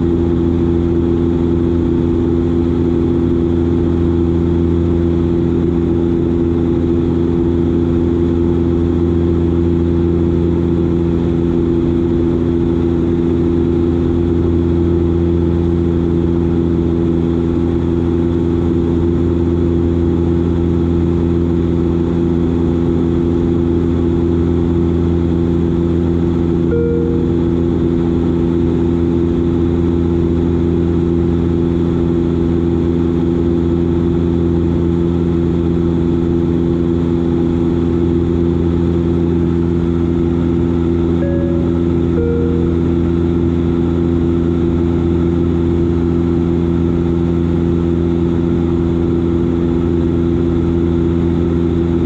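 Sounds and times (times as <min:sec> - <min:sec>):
turboprop engine drone in flight: 0:00.0 - 0:52.0.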